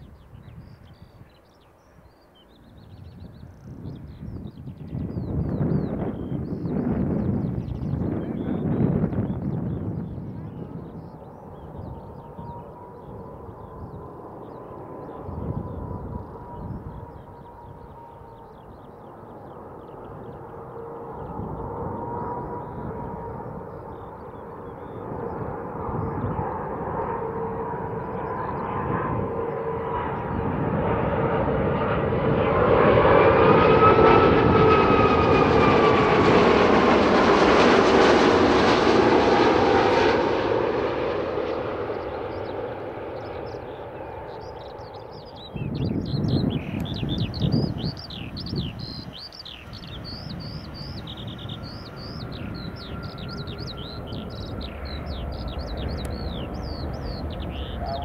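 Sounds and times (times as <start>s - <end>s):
small birds chirping: 0.0s - 31.9s, 34.9s - 58.0s
jet plane passing overhead: 0.0s - 58.0s
low rumbling gusts: 0.0s - 58.0s.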